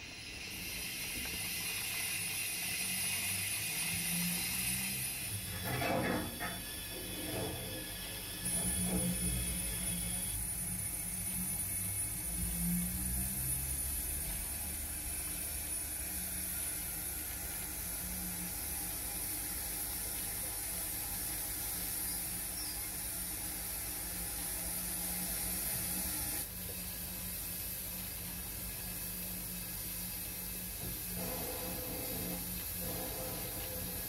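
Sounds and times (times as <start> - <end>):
steady hiss: 0.0 - 6.6, 8.3 - 34.0
model steam locomotive running: 0.0 - 34.0.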